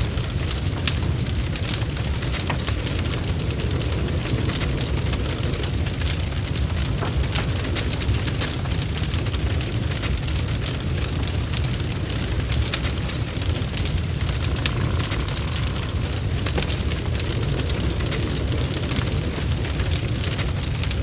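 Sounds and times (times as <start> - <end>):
bonfire crackling: 0.0 - 21.0.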